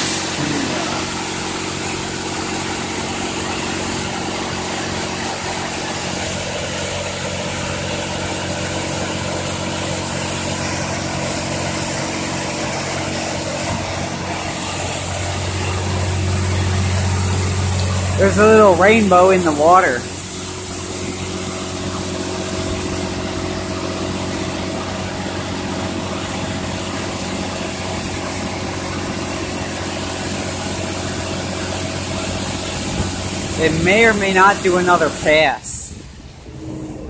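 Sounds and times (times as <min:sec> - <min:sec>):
water jets hissing: 0:00.0 - 0:36.6
deeper hum: 0:00.0 - 0:37.0
pump motor humming: 0:00.0 - 0:37.0.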